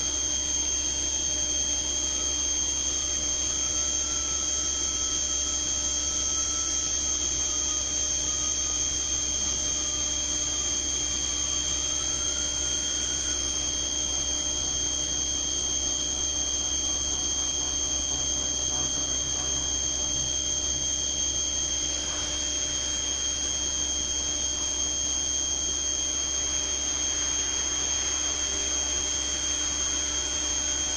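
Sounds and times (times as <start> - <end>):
low machine hum: 0.0 - 30.9
milling spindle high-pitched whine: 0.0 - 30.9.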